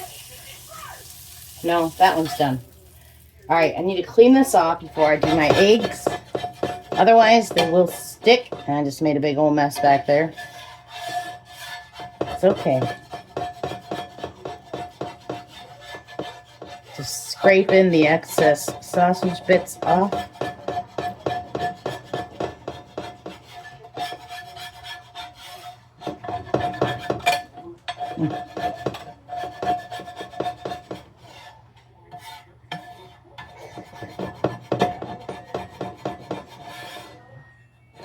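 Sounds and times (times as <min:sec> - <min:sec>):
scraping a cooking pan: 0:00.0 - 0:38.0.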